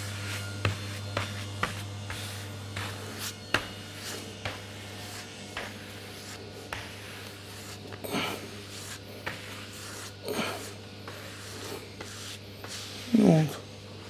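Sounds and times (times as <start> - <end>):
glue brush swishing on wood: 0.0 - 13.6
steady low hum: 0.0 - 14.0.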